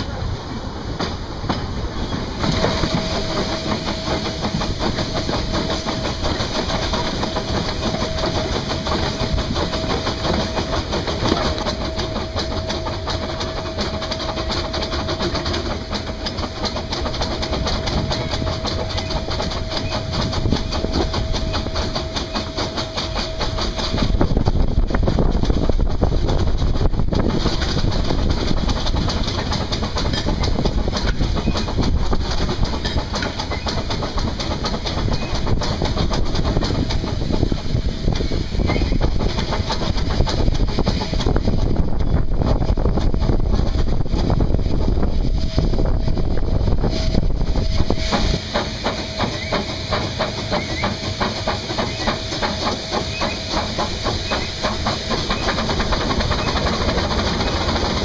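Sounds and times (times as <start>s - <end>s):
steam locomotive working: 0.0s - 58.0s
wheels clattering over rails: 0.0s - 58.0s.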